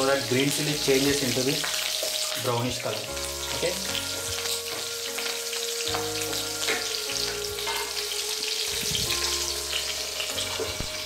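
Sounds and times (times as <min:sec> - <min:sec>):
chilies sizzling in hot oil: 0:00.0 - 0:11.0.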